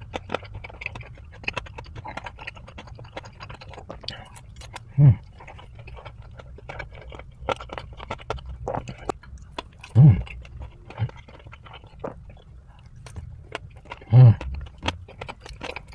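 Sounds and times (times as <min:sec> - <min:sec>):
chewing with wet clicks and crunches: 0:00.0 - 0:15.9.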